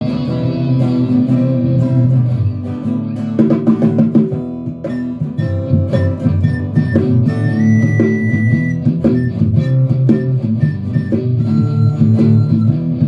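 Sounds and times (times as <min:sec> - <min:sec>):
instrumental guitar band music: 0:00.0 - 0:13.0.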